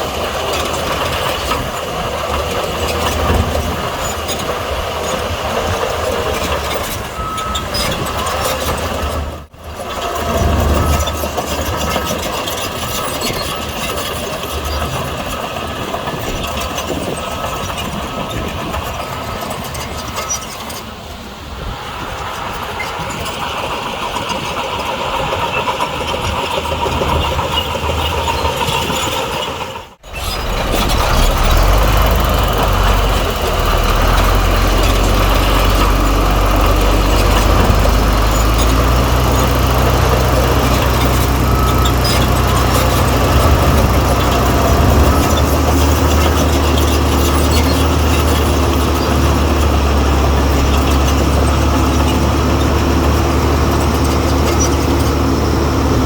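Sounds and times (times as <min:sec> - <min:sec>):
deep engine drone: 0:00.0 - 0:15.3, 0:26.2 - 0:56.0
diesel engine running: 0:00.0 - 0:56.0.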